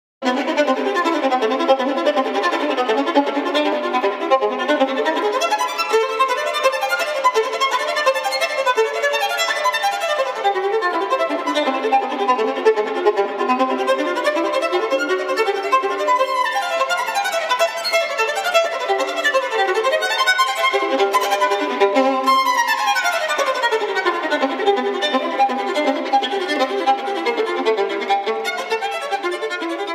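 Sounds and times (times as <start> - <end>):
fast violin music: 0.2 - 29.9.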